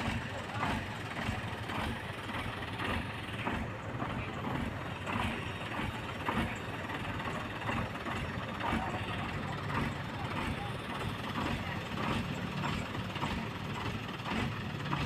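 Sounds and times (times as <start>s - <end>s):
truck engines humming: 0.0s - 15.0s.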